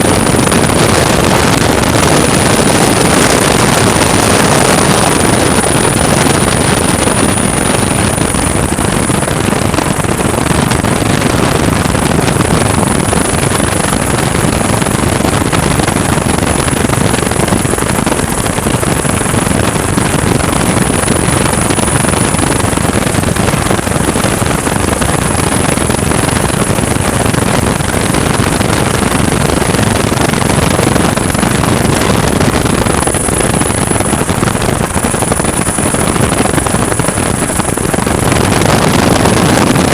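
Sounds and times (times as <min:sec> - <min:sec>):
helicopter turbine and rotor: 0:00.0 - 0:39.9
high-pitched whine: 0:00.0 - 0:39.9.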